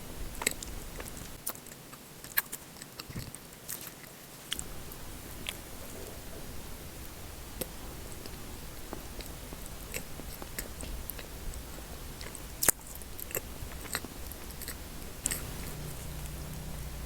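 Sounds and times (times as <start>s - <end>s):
chewing crunchy snacks: 0.3s - 16.8s.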